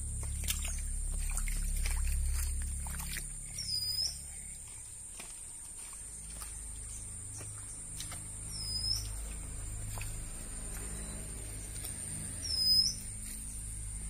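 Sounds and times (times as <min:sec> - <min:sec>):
dipping bird calls: 0:00.0 - 0:13.7
high-pitched insect trill: 0:00.0 - 0:14.0.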